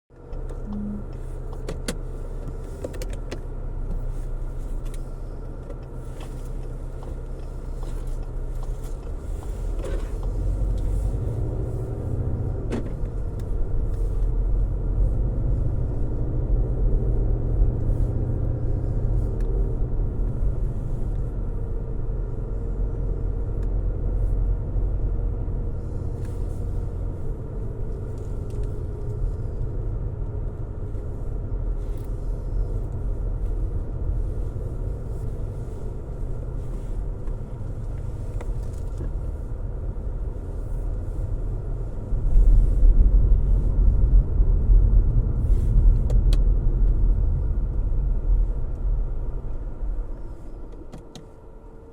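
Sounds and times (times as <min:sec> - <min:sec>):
car engine and road rumble: 0:00.1 - 0:51.9.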